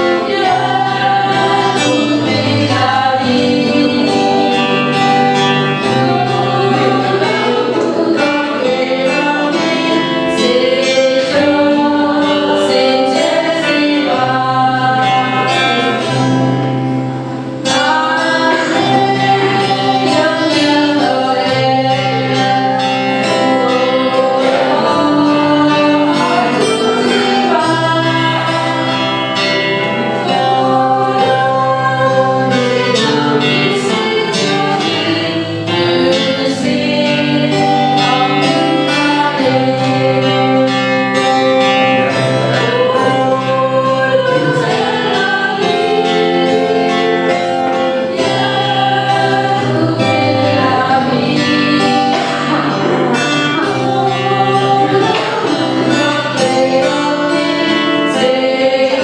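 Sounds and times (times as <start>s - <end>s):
instrumental accompaniment: 0.0s - 59.0s
women singing into microphones: 0.0s - 59.0s.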